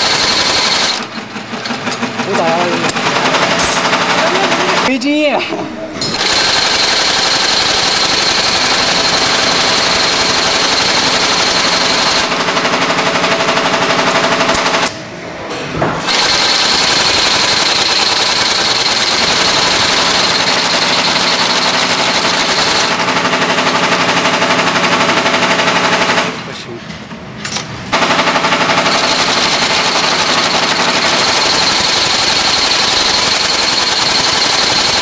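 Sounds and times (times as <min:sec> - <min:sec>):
stitching machine clattering: 0:00.0 - 0:05.0, 0:06.0 - 0:14.9, 0:16.1 - 0:26.0, 0:28.0 - 0:35.0
high machine whine: 0:00.0 - 0:23.8, 0:28.1 - 0:35.0.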